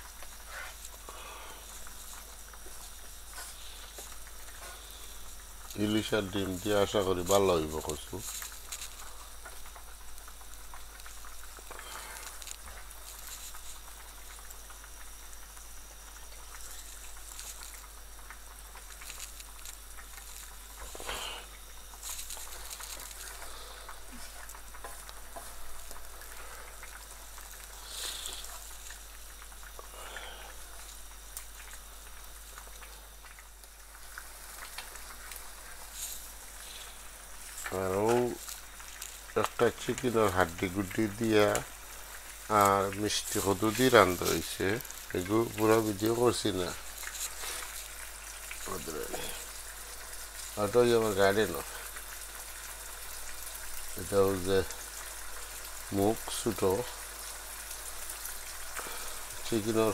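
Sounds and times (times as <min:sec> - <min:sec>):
curry sizzling and bubbling: 0:00.0 - 0:59.9.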